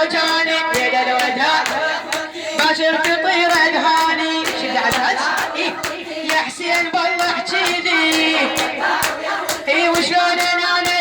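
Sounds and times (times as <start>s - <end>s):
person singing mourning lament: 0.0s - 11.0s
rhythmic chest beating: 0.0s - 11.0s.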